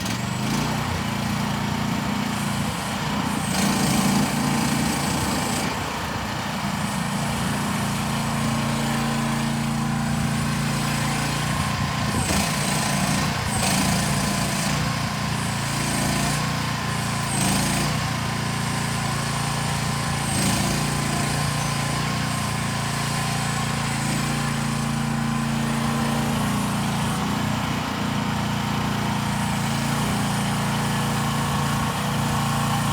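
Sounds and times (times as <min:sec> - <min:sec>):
small excavator engine running: 0:00.0 - 0:32.9.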